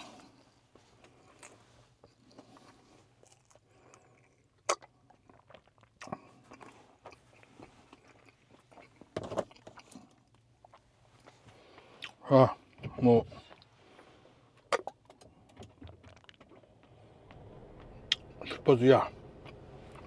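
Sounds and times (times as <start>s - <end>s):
person chewing: 0.0s - 12.8s, 13.4s - 18.5s, 19.1s - 20.0s.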